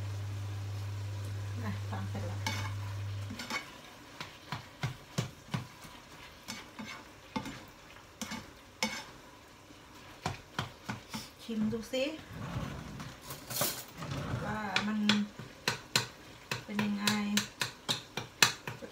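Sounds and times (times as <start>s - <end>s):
food frying: 0.0s - 18.9s
spatula scraping frying pan: 2.1s - 18.9s.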